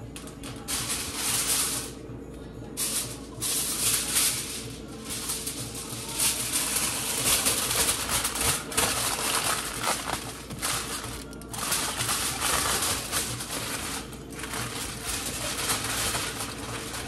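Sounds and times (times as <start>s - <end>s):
aluminium foil crinkling: 0.2s - 2.0s, 2.7s - 17.0s.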